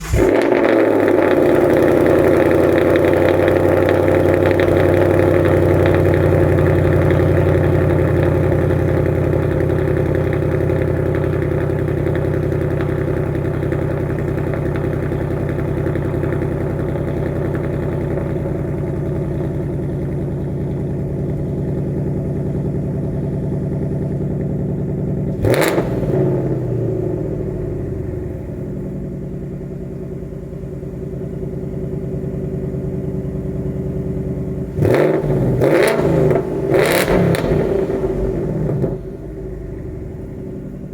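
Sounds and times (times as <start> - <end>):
car engine fast idle: 0.0 - 40.9
engine throttle blip: 0.0 - 40.9.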